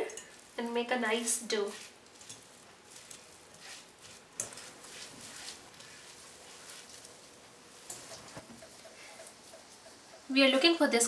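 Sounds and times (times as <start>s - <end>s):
soft squishing and scraping: 0.0s - 10.0s.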